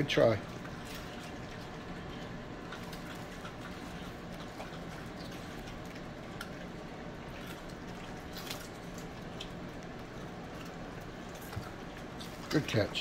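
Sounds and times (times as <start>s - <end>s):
steady low hum: 0.0s - 13.0s
dogs chewing: 0.2s - 13.0s.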